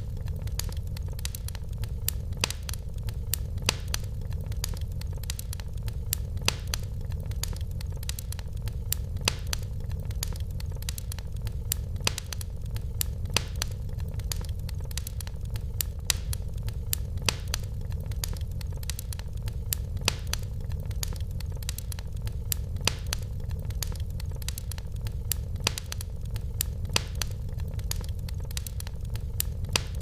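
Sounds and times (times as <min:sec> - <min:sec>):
burning logs popping: 0:00.0 - 0:30.0
fire crackling: 0:00.0 - 0:30.0
fire rumbling: 0:00.0 - 0:30.0.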